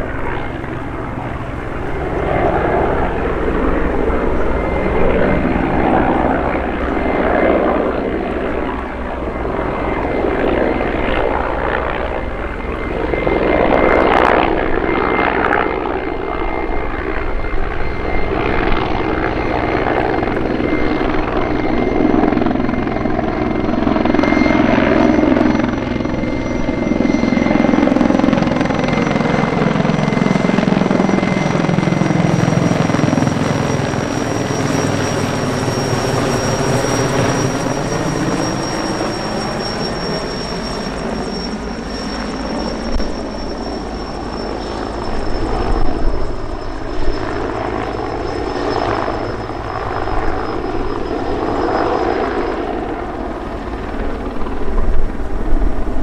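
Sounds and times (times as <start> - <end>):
helicopter rotor beating: 0.0 - 56.0
turboshaft engine whine: 0.0 - 56.0.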